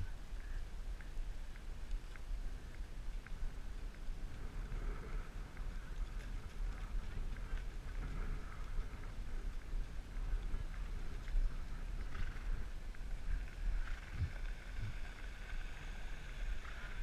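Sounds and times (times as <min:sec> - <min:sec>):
wind rumbling on microphone: 0:00.0 - 0:17.0
faint clicks: 0:00.4 - 0:17.0.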